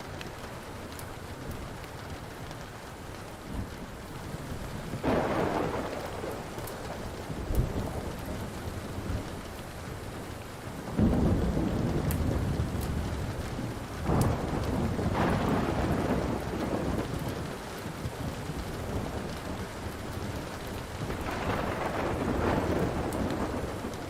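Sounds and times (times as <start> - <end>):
steady rain: 0.0 - 24.0
thunder rumbling: 3.4 - 24.0.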